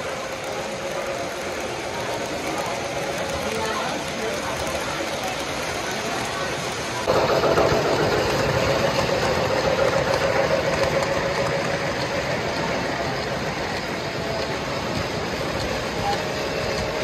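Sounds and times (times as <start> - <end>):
model train motor hum: 0.0 - 17.0
wheel rumble: 0.0 - 17.0.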